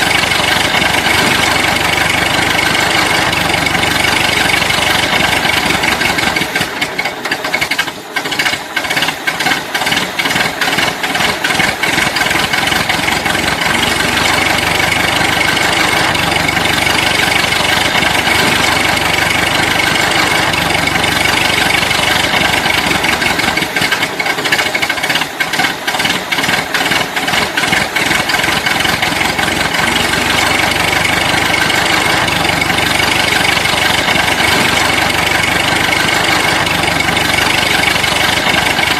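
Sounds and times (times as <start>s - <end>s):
fast clicking or rattling: 0.0s - 38.9s.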